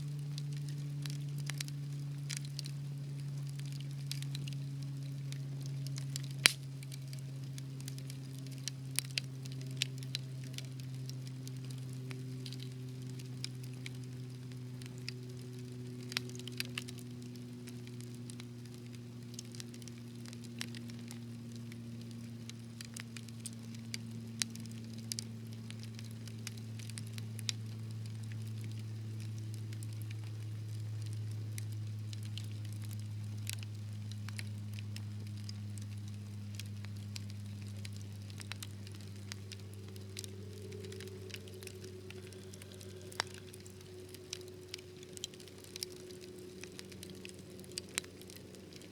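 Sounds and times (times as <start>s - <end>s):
low steady hum: 0.0s - 48.9s
wood fire pops and snaps: 0.1s - 48.9s.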